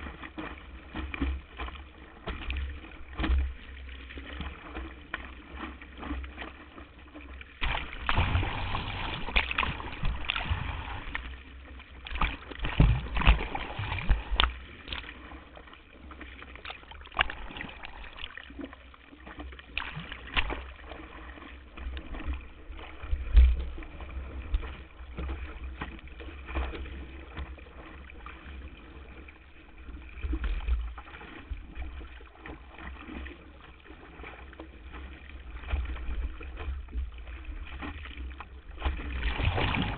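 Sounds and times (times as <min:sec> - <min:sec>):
slaps of spray and waves: 0:00.0 - 0:39.9
water rushing against board: 0:00.0 - 0:39.9.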